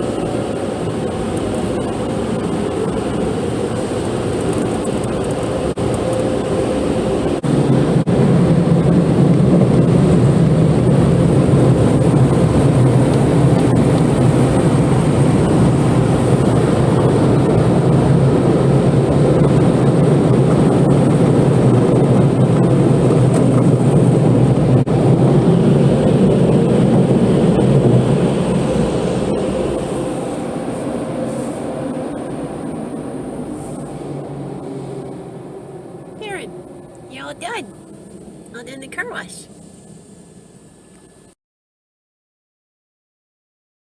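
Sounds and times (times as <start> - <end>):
car wash machinery: 0.0 - 38.8.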